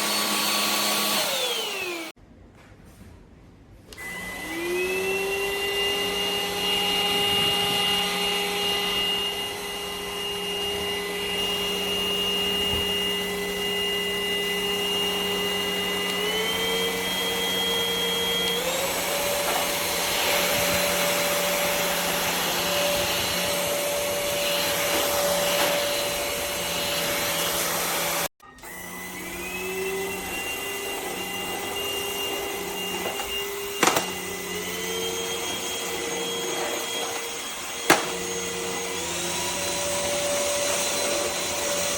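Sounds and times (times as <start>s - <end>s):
stick vacuum motor whine: 0.0s - 2.1s, 3.9s - 41.9s.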